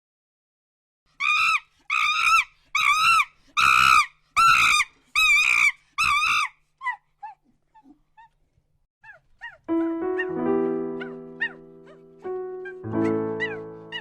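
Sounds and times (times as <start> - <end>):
animal high-pitched calls: 1.2 - 8.3, 9.0 - 14.0.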